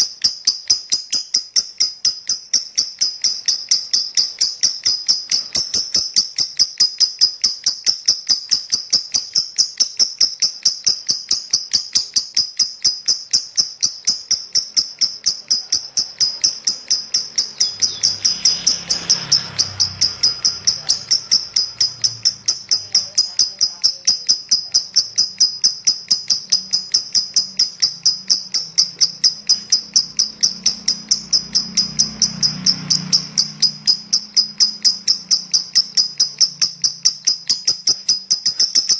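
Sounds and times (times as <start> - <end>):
lovebird chattering chirp: 0.0 - 38.9.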